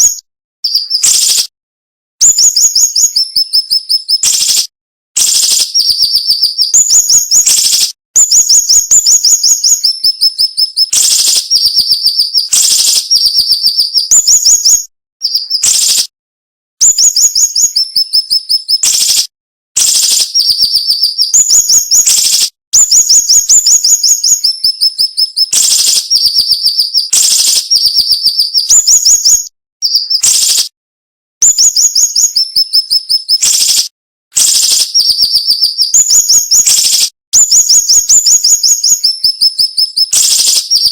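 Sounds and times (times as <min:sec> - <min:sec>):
bird singing rapid chirped phrases: 0:00.0 - 0:01.5, 0:02.2 - 0:16.1, 0:16.8 - 0:30.7, 0:31.4 - 0:40.9.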